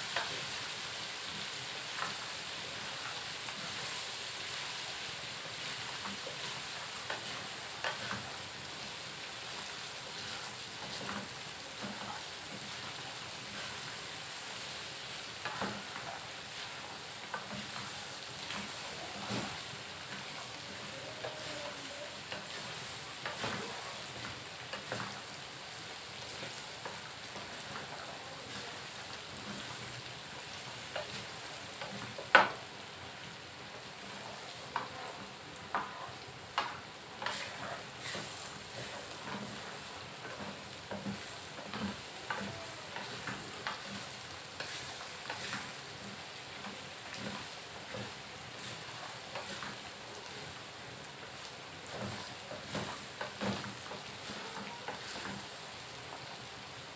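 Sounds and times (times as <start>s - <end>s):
peanuts sizzling in a wok: 0.0s - 56.9s
wooden spatula scraping wok: 0.0s - 56.9s.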